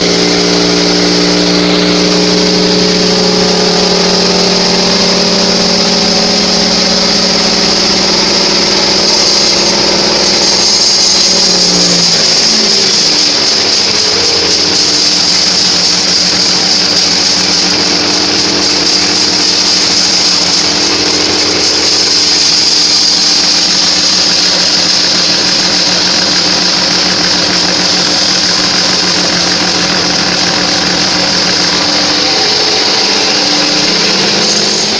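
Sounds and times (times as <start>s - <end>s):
high saw hiss: 0.0s - 34.9s
sawmill machine hum: 0.0s - 34.9s.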